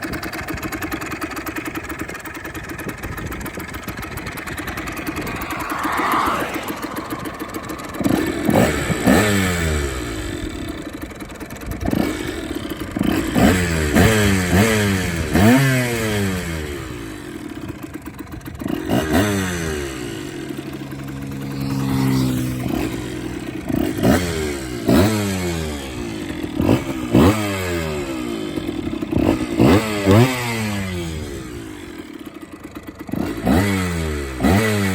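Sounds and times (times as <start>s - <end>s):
motorcycle engine idling: 0.0s - 34.9s
motorcycle engine revving: 0.0s - 34.9s.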